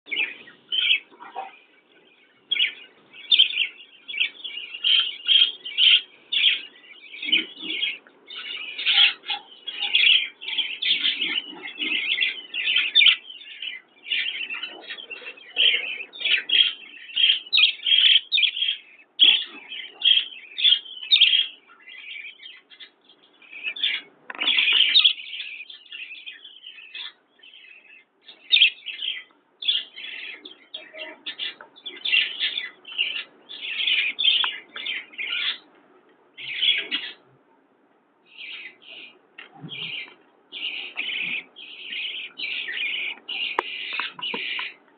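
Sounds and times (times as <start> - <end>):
parrots chirping: 0.1 - 37.3, 38.2 - 44.9.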